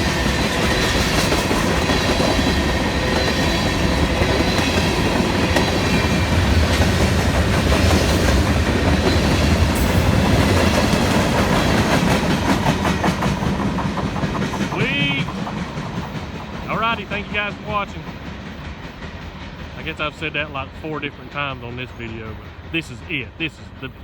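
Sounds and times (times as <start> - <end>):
train rumble and hiss: 0.0 - 24.0.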